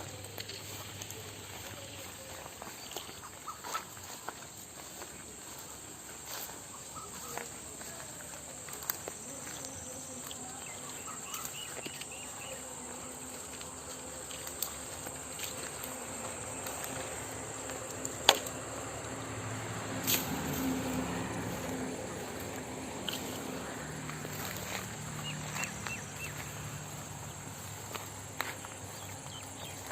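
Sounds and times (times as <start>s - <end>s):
insects buzzing: 0.0s - 29.9s.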